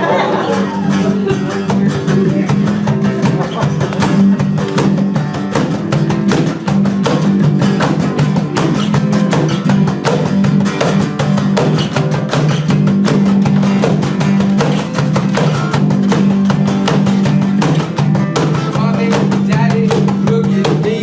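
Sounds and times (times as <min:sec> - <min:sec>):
held bass notes: 0:00.0 - 0:21.0
live band playing: 0:00.0 - 0:21.0
strummed guitar: 0:00.0 - 0:21.0.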